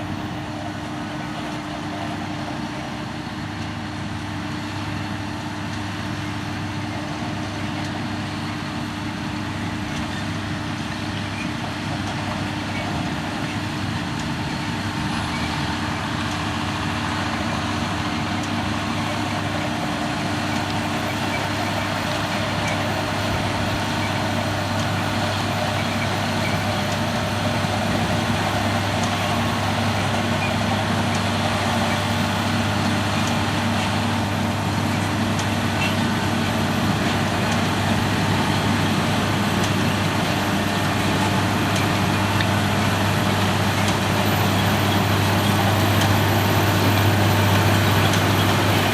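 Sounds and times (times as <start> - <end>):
diesel machinery droning: 0.0 - 48.9.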